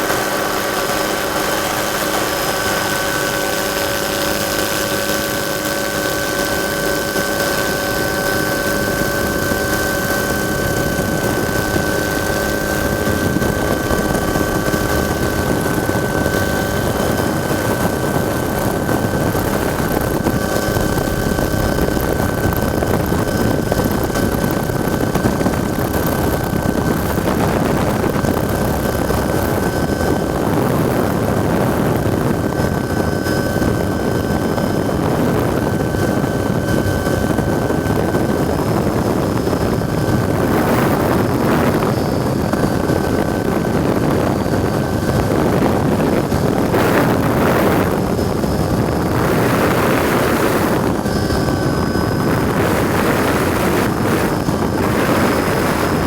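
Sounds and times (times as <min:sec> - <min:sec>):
helicopter in flight: 0:00.0 - 0:56.0.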